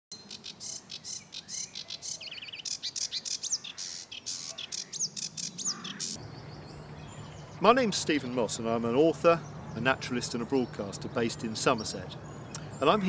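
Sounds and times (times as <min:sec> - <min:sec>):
warbler singing: 0:00.2 - 0:13.0.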